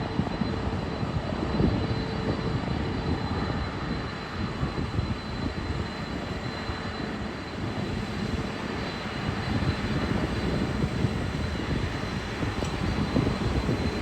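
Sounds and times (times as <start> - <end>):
faint jet engine whine: 0.0 - 14.0
jet engines rumbling: 0.0 - 14.0.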